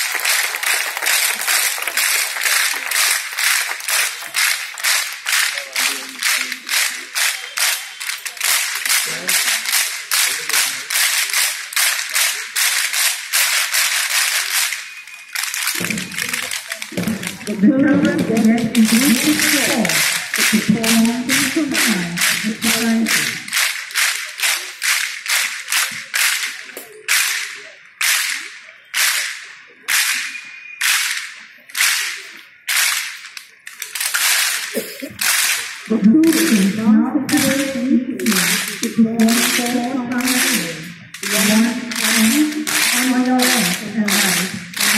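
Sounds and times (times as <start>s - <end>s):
group clapping in unison: 0.0s - 44.9s.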